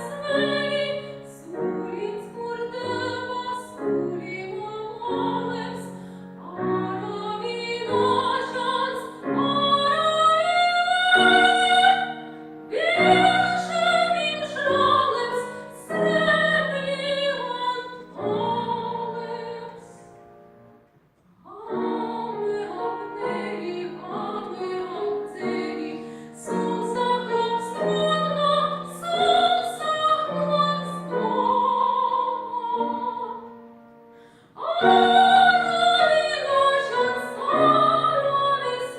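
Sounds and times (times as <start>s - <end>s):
woman singing opera: 0.0s - 20.0s, 21.4s - 33.6s, 34.5s - 38.9s
piano accompaniment: 0.0s - 38.9s.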